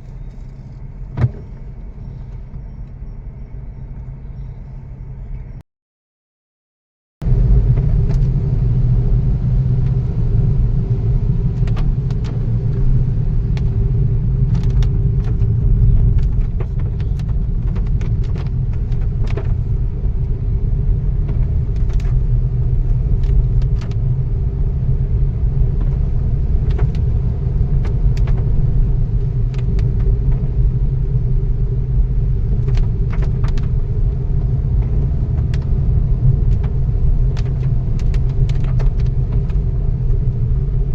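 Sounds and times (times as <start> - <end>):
vehicle engine and road rumble: 0.0 - 5.6, 7.2 - 40.9.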